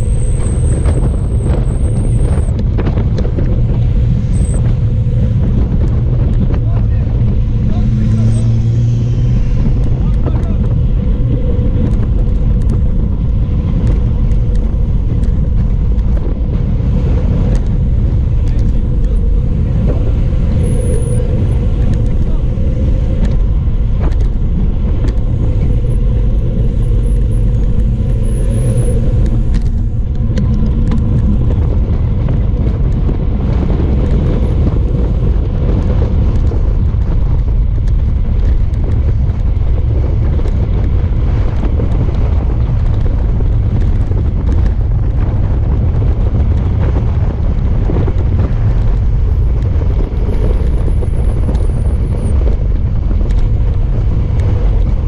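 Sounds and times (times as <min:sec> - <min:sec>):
wind roaring over microphone: 0:00.0 - 0:55.0.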